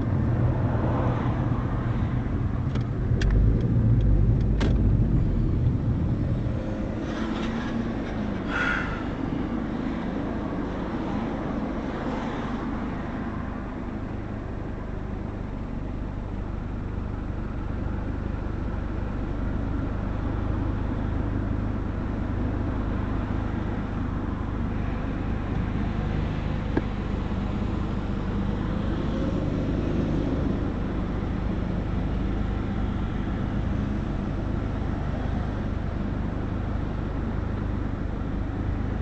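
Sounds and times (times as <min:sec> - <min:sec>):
car road and engine noise: 0:00.0 - 0:39.0.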